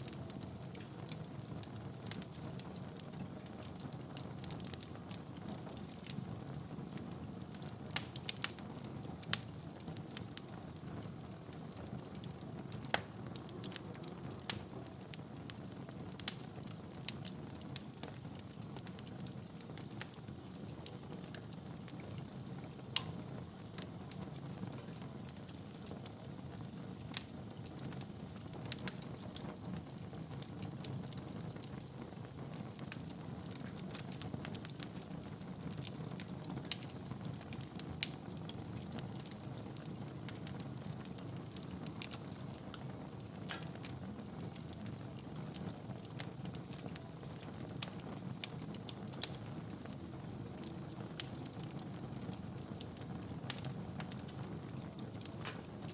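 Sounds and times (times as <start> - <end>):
logs crackling and popping: 0.0 - 55.9
low rumble of flames: 0.0 - 55.9.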